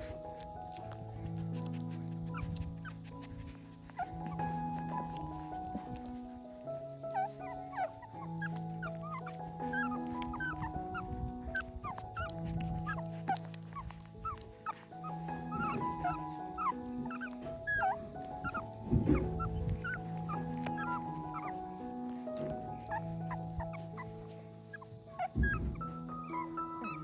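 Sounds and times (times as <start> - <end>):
puppies whimpering: 0.0 - 27.0
soft background music: 0.0 - 27.0.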